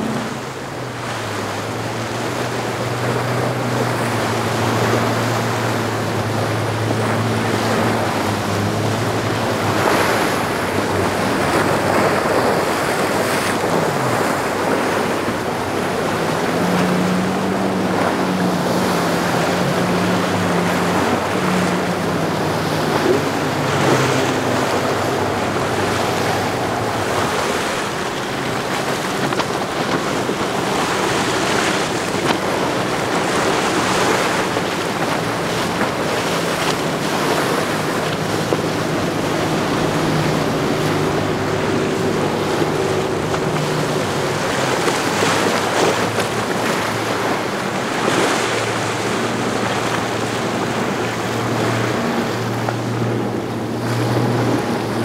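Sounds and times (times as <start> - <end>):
motorboat engines droning: 0.0 - 55.0
wake and surf: 0.0 - 55.0.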